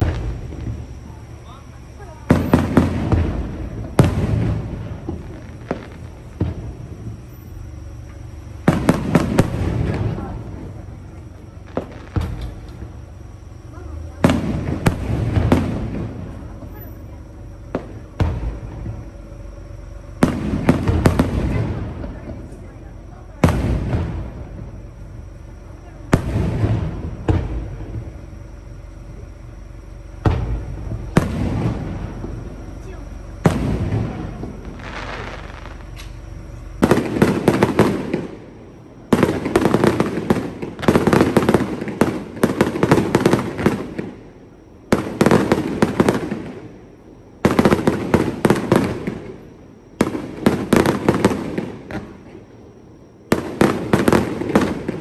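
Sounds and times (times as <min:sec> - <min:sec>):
fireworks bangs with rumble: 0:00.0 - 0:55.0.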